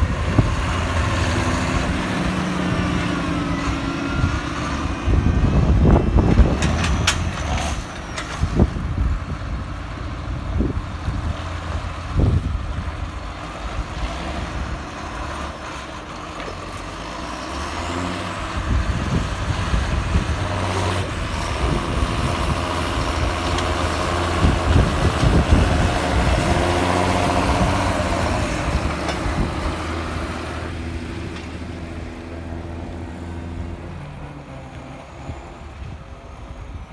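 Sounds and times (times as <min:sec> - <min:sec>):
tractor diesel engine working hard: 0:00.0 - 0:36.9.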